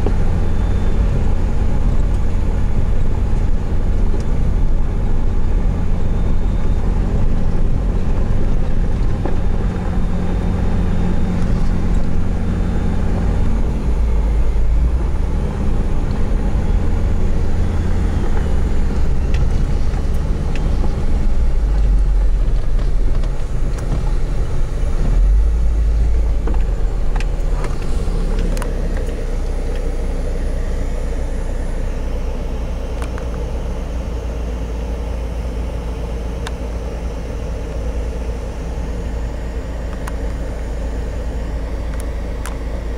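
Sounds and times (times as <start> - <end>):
vehicle engine rumble: 0.0 - 42.9.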